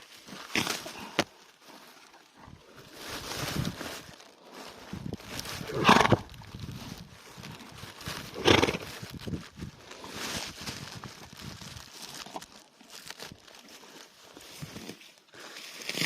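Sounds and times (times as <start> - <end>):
grass rustling and munching: 0.0 - 16.0.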